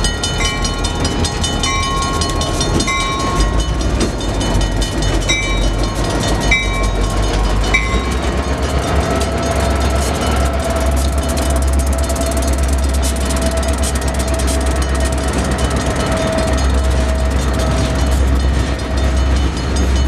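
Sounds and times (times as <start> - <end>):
crossing bell ringing: 0.0 - 20.0
diesel locomotives rumbling: 0.0 - 20.0
wheels clacking over crossing: 0.0 - 20.0.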